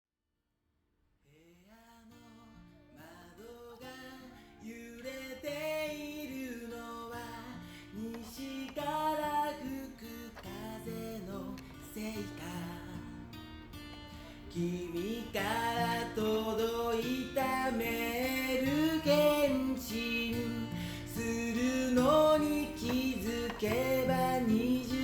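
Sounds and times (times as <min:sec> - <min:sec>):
acoustic guitar: 0:01.2 - 0:25.0.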